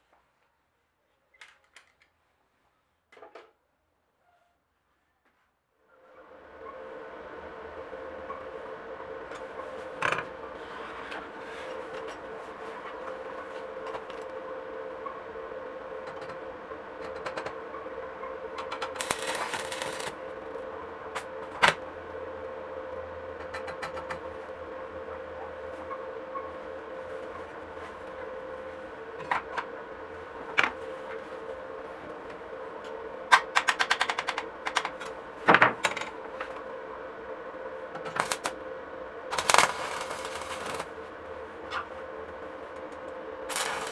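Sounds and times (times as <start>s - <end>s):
steady hum: 5.8s - 43.9s.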